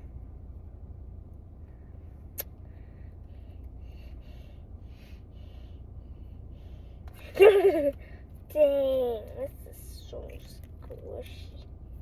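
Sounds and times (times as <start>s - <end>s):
road rumble inside a car: 0.0s - 12.0s.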